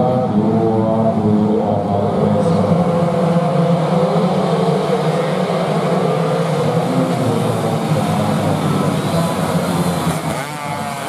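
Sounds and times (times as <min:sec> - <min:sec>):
many motorcycle engines revving: 0:00.0 - 0:11.0.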